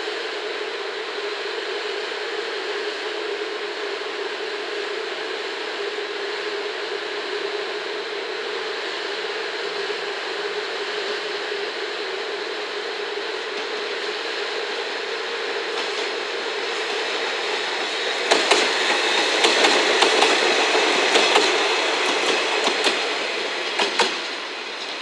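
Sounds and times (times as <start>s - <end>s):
diesel railcar engine hum: 0.0s - 25.0s
hiss: 0.1s - 25.0s.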